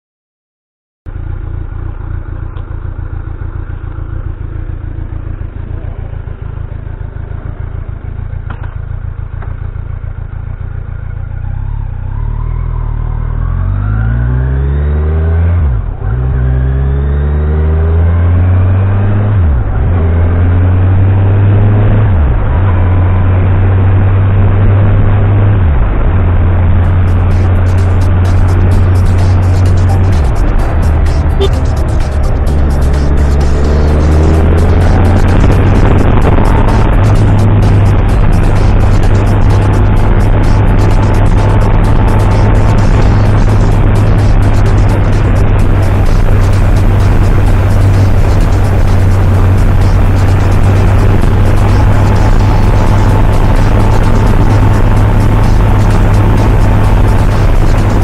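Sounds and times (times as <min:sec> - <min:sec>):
motorcycle engine accelerating: 0:01.1 - 0:58.0.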